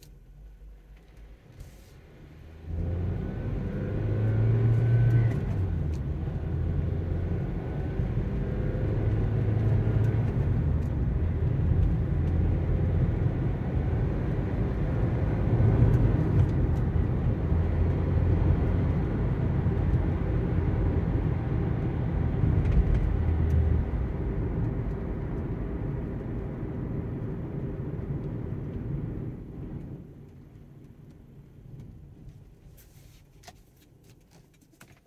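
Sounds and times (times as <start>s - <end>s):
car engine: 0.0s - 35.0s.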